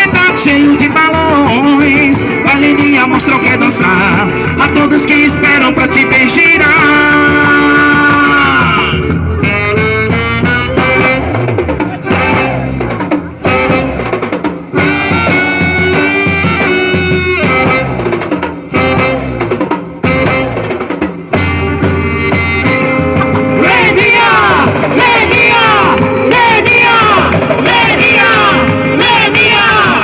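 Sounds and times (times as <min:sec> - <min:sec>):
melody over drum kit beat: 0:00.0 - 0:30.0.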